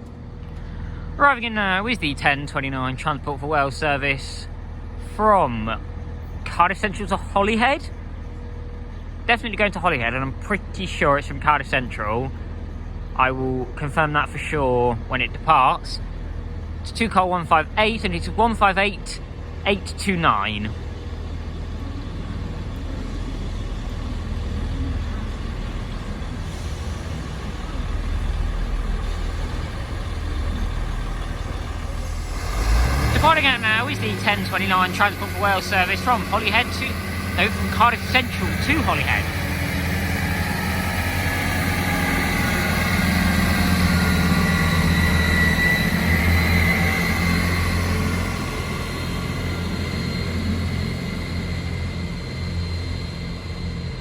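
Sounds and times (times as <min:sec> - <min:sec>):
diesel train engines rumbling: 0:00.0 - 0:54.0.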